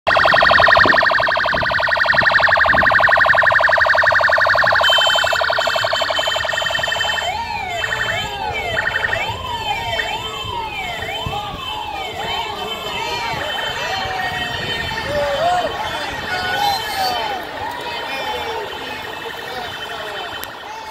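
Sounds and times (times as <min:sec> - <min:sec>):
fast-pulsing siren: 0:00.0 - 0:20.9
wailing sirens: 0:00.0 - 0:20.9.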